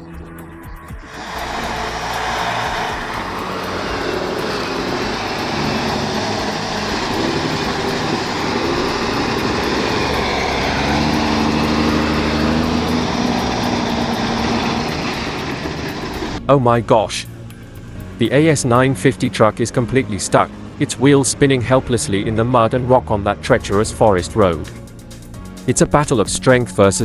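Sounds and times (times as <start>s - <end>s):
diesel truck engine under load: 1.1s - 16.4s, 17.8s - 25.1s.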